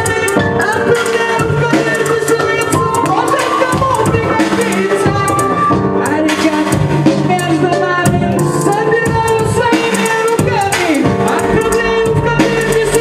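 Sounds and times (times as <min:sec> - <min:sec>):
beatboxing into microphone: 0:00.0 - 0:13.0.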